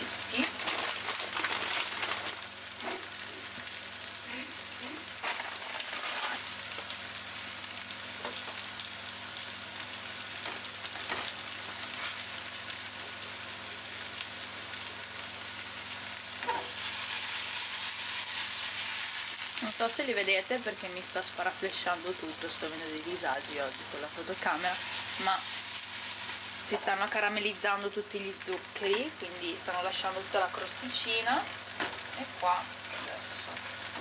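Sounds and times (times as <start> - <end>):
tofu sizzling in oil: 0.0 - 34.0.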